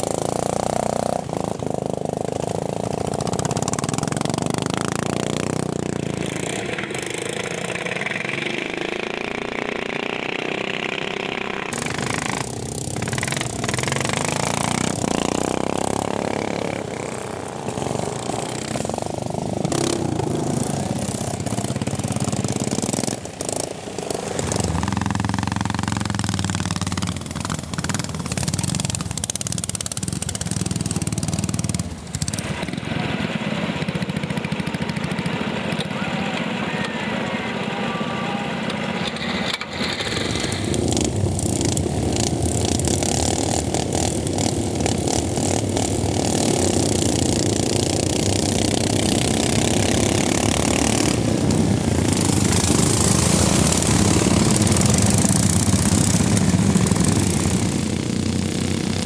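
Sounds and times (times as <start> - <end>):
small petrol engines revving: 0.0 - 59.0.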